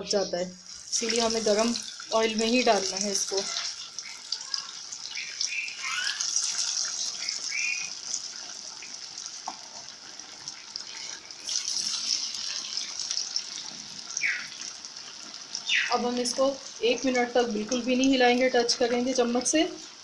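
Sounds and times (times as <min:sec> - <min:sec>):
fish deep-frying in oil: 0:00.0 - 0:20.0.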